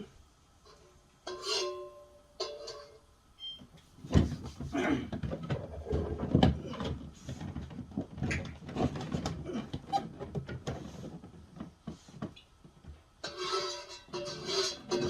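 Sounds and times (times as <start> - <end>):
objects clattering and knocking: 0.7 - 3.0, 4.0 - 15.0.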